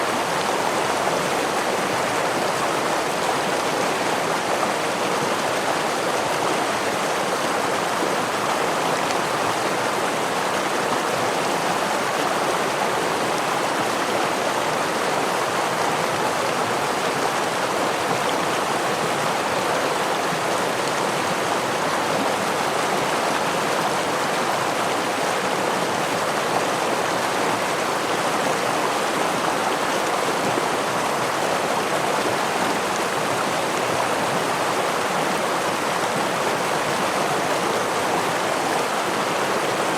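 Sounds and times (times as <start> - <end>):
stream rushing over waterfall: 0.0 - 39.9.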